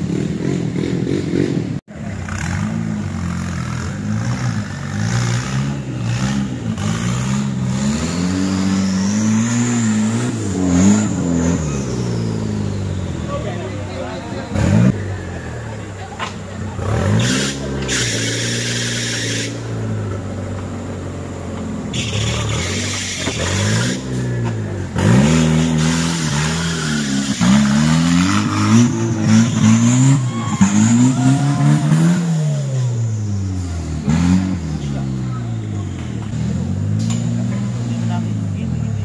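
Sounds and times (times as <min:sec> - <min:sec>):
truck engine revving hard: 0:00.0 - 0:20.5, 0:21.8 - 0:39.0.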